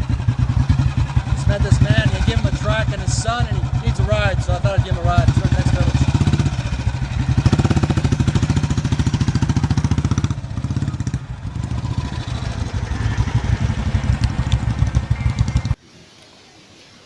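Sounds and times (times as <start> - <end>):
vehicle engine throbbing: 0.0 - 15.8.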